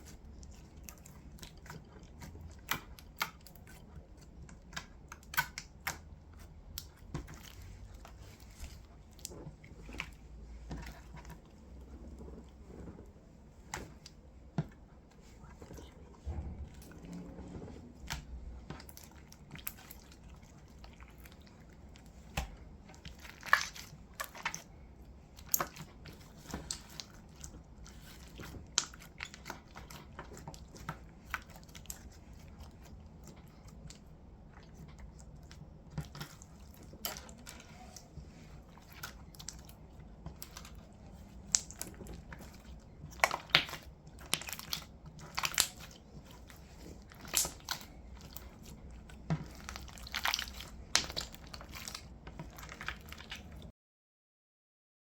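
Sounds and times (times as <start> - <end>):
slime squished by hand: 0.0 - 53.7.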